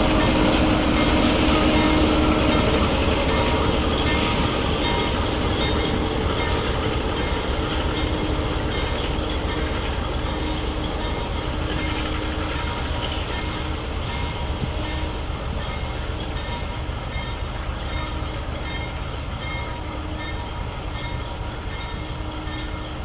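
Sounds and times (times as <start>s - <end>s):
diesel locomotive rumbling: 0.0s - 23.0s.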